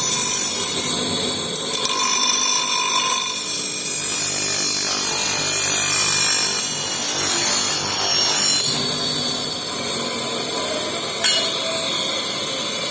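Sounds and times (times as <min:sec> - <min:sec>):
power tool grinding steel: 0:00.0 - 0:12.9.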